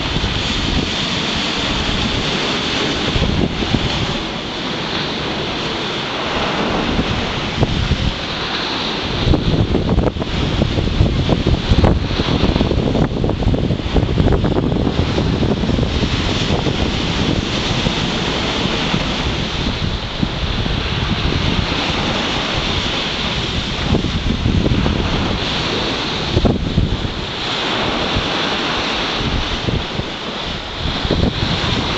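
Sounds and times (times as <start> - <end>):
waves breaking against sea wall: 0.0 - 31.9
wind buffeting microphone: 0.0 - 31.9.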